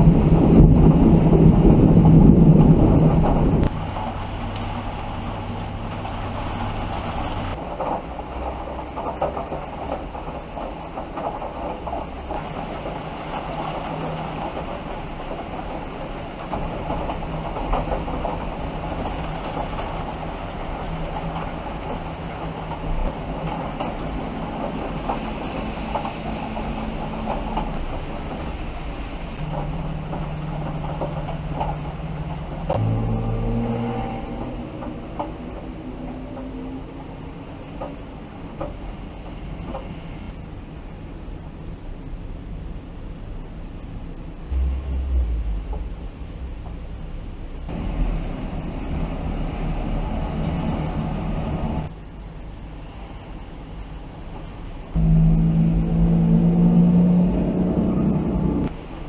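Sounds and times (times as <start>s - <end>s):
deep rumble of thunder: 0.0s - 43.1s, 43.7s - 52.0s, 54.8s - 59.0s
low engine hum: 0.0s - 59.0s.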